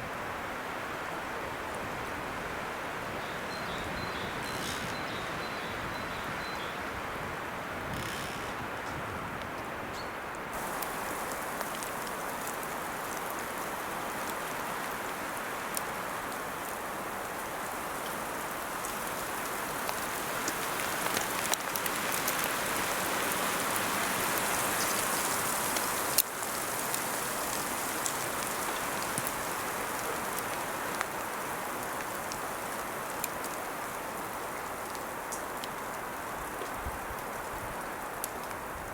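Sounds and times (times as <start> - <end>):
hiss of rain falling: 0.0 - 38.9.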